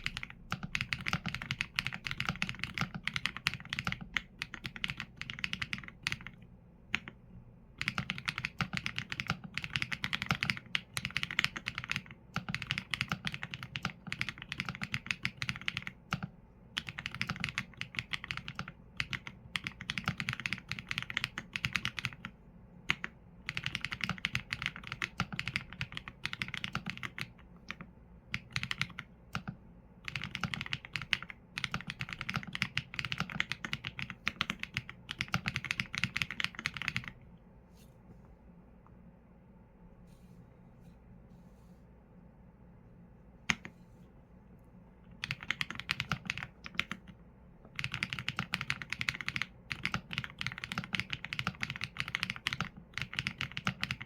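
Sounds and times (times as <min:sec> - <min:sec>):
mechanical keyboard typing: 0:00.0 - 0:07.2, 0:07.8 - 0:22.3, 0:22.9 - 0:37.2, 0:45.2 - 0:54.0.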